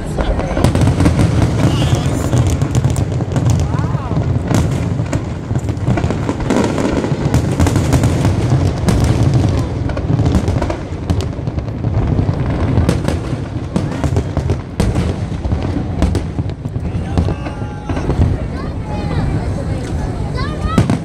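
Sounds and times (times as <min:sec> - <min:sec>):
deep booming of fireworks: 0:00.0 - 0:21.0
sharp fireworks cracks: 0:00.0 - 0:21.0.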